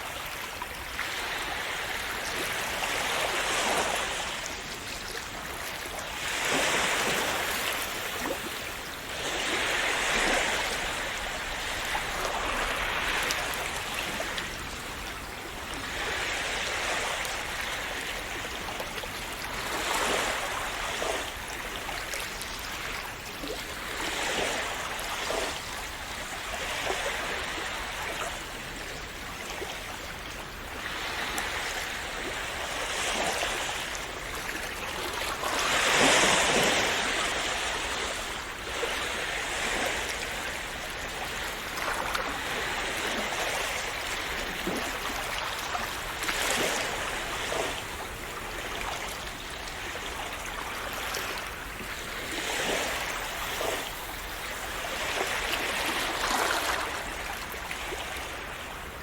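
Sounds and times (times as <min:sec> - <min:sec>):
sea waves washing and splashing: 0:00.0 - 0:59.0.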